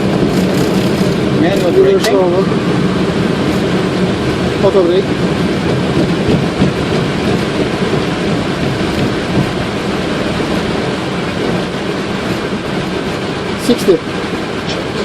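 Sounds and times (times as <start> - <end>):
jet engines in reverse thrust: 0.0 - 15.0.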